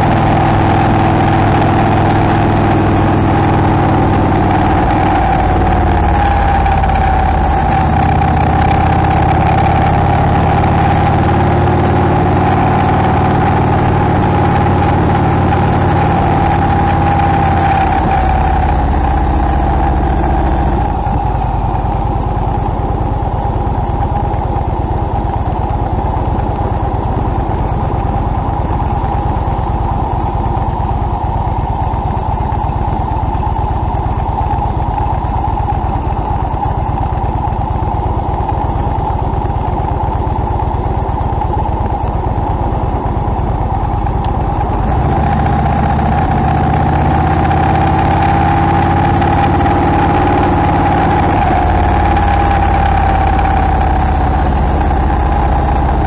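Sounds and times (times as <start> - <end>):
motorcycle engine running: 0.0 - 56.0
road noise: 0.0 - 56.0
wind noise: 0.0 - 56.0.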